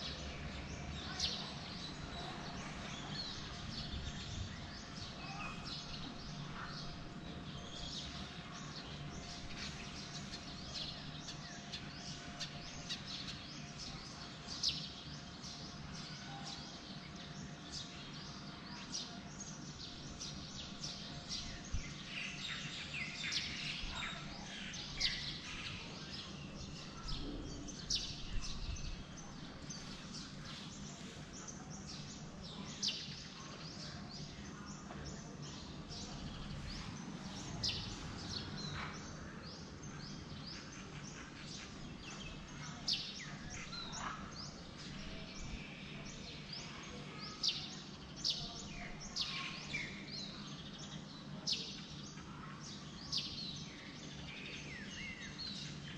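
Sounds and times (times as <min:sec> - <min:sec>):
birds chirping and calling: 0:00.0 - 0:55.9.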